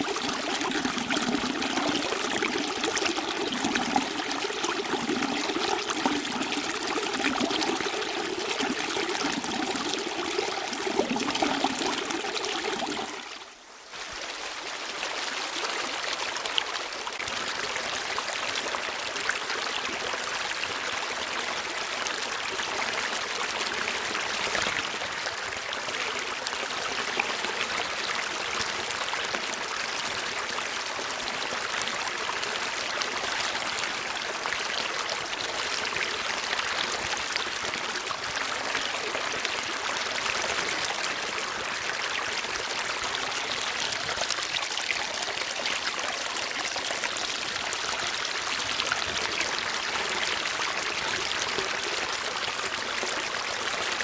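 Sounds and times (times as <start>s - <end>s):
stream water gurgling: 0.0s - 54.0s.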